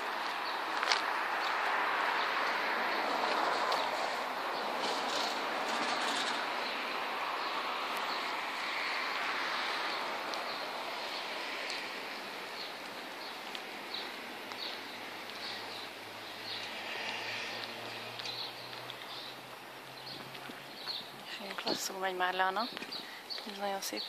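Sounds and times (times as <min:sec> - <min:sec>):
small birds chirping: 0:00.0 - 0:00.8, 0:01.4 - 0:24.0
distant traffic noise: 0:00.0 - 0:24.0.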